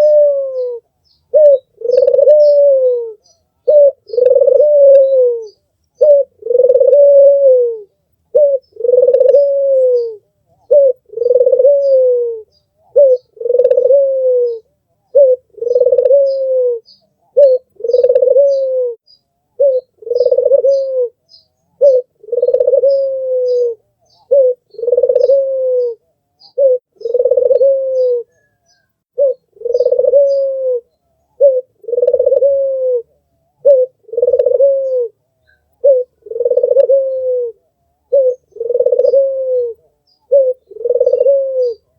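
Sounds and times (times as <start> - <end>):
dove cooing: 0.0 - 19.0, 19.6 - 41.9.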